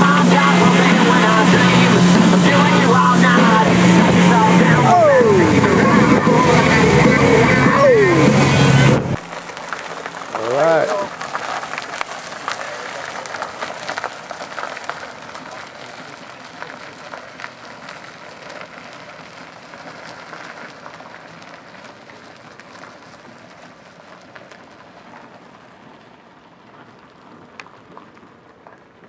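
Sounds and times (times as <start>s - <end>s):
tyres crackling hiss: 0.0s - 24.7s.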